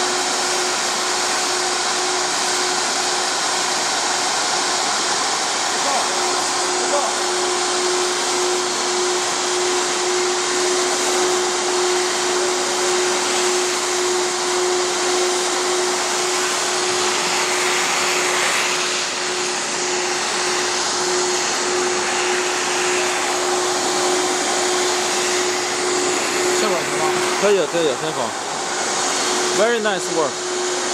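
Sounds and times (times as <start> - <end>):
router spindle whine: 0.0 - 30.9
vacuum suction rushing: 6.1 - 30.9.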